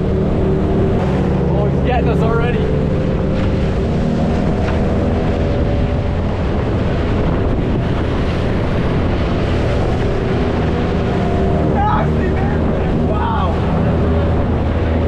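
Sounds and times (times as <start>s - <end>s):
outboard motor running: 0.0s - 15.0s
water rushing past hull: 0.0s - 15.0s
wind buffeting microphone: 0.0s - 15.0s.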